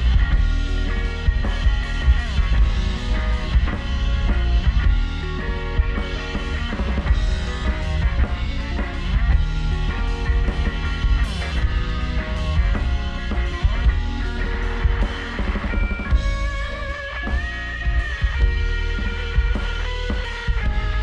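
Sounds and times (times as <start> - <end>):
drum kit beat: 0.0 - 21.0
electric guitars: 0.0 - 21.0.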